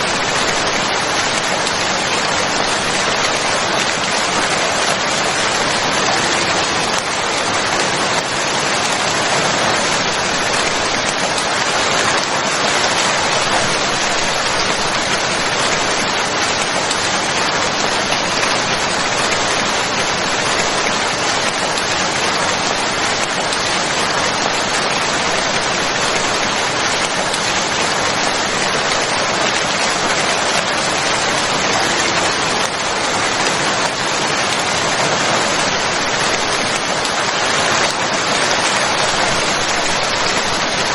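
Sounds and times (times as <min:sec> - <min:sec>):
dense rain hissing: 0:00.0 - 0:40.9.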